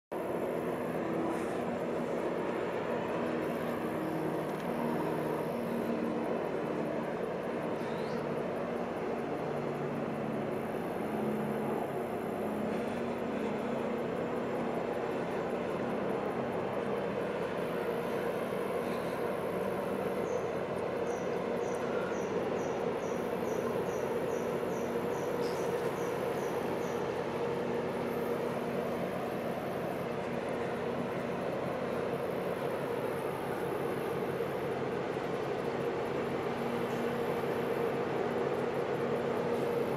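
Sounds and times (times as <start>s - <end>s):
distant engine drone: 0.1s - 39.9s
faint wavering hum: 0.2s - 39.9s.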